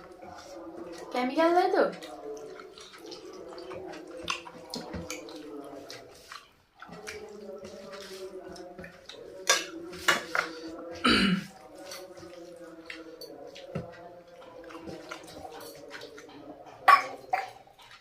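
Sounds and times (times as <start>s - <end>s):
wet chewing and mouth sounds: 0.0s - 18.0s.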